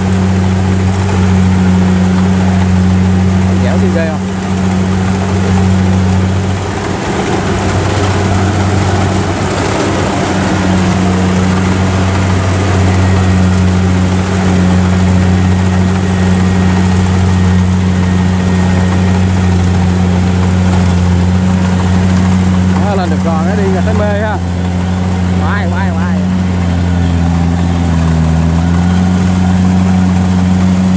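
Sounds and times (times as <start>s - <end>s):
diesel engine droning: 0.0s - 30.9s.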